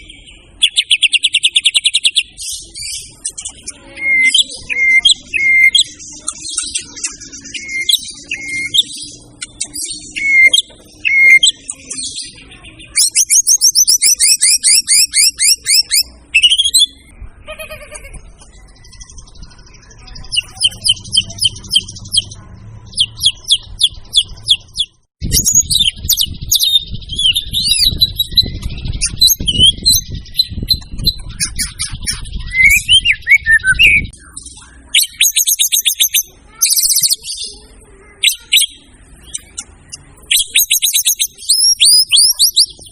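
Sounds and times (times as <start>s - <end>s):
songbird whistling and trilling: 0.0s - 17.1s, 18.8s - 37.4s, 38.2s - 42.9s.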